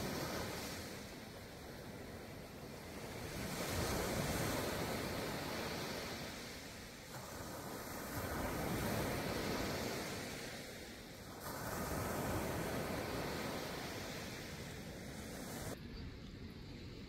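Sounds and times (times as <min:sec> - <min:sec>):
small waves breaking on beach: 0:00.0 - 0:15.8.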